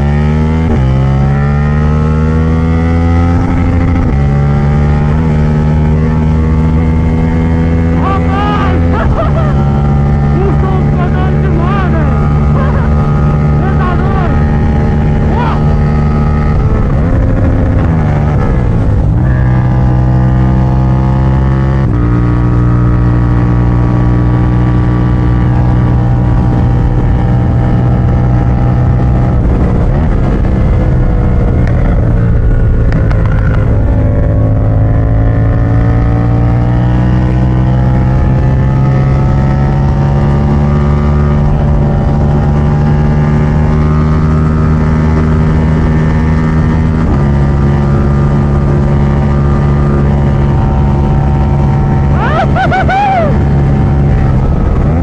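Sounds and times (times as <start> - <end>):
loud motorcycle engine revving: 0.0 - 55.0.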